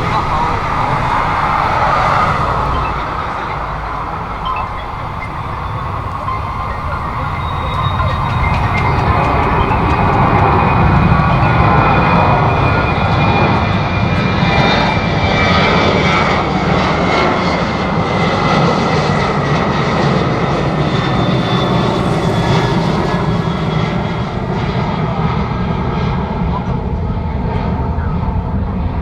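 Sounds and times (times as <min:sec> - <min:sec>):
jet engines roaring past: 0:00.0 - 0:29.0.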